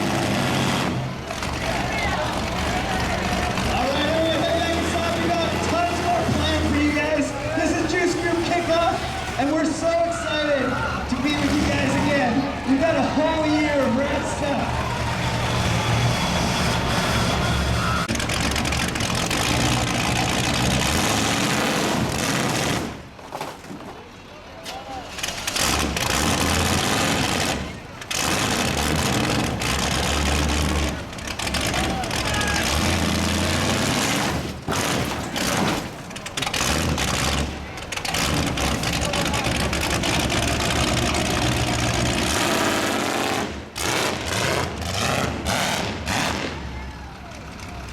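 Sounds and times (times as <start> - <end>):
monster truck engine running: 0.0 - 47.9.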